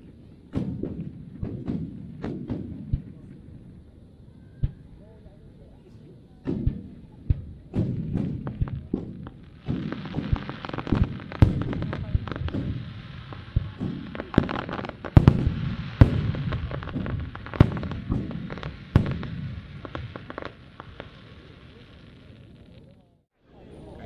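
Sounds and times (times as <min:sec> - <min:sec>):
fireworks bangs: 0:00.0 - 0:23.1.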